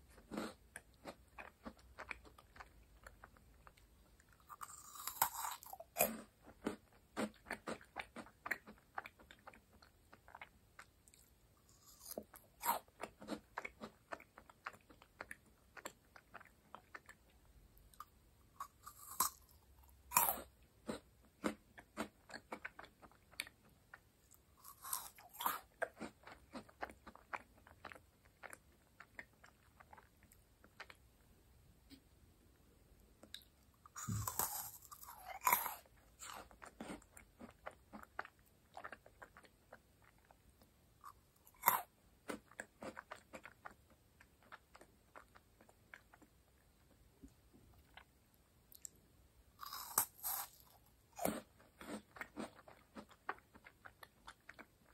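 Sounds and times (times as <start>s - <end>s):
chewing crisp cookies: 0.0s - 32.0s, 32.9s - 54.9s.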